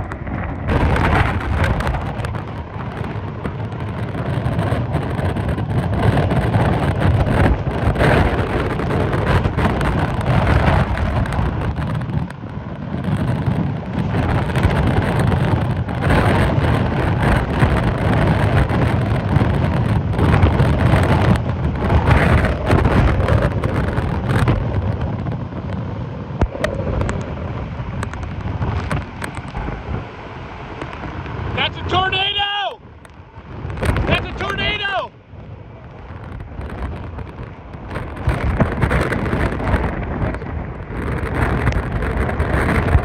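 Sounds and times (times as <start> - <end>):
driving rain: 0.0 - 43.0
gusting wind buffeting microphone: 0.0 - 43.0.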